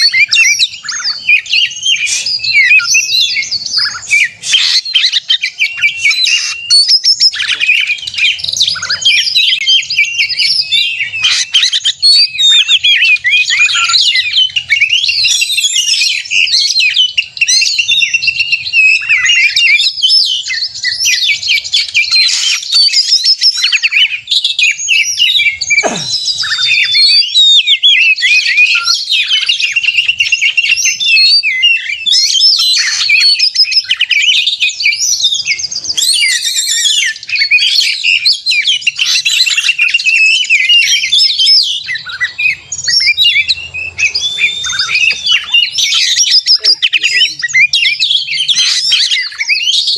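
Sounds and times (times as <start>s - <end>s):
bird singing whistles and trills: 0.0s - 49.9s.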